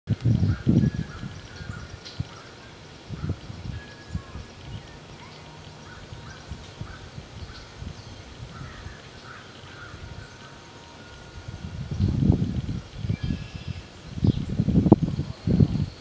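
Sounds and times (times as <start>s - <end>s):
birds calling in short notes: 0.4s - 12.3s, 12.9s - 16.0s.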